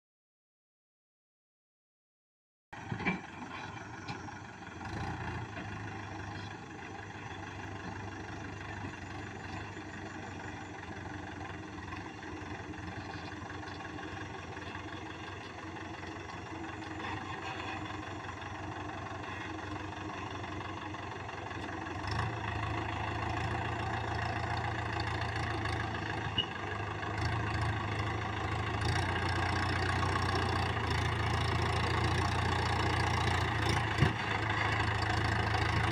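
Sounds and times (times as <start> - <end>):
tractor diesel engine running: 2.8 - 35.9.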